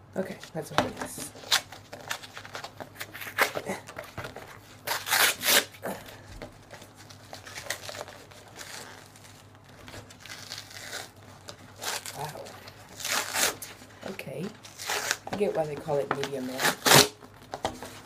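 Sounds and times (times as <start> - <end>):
paper rustling: 0.3 - 18.0
paper envelope tearing: 1.2 - 15.6, 16.2 - 17.2.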